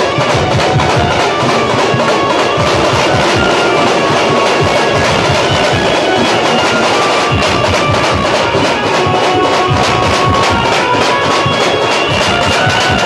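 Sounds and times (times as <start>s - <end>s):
fast drum beats: 0.0s - 13.0s.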